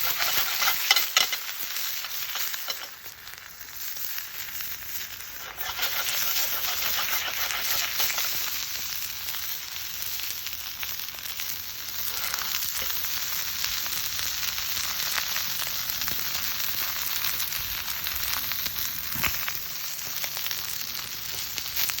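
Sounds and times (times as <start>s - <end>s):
chicken sizzling in frying pan: 0.0s - 22.0s.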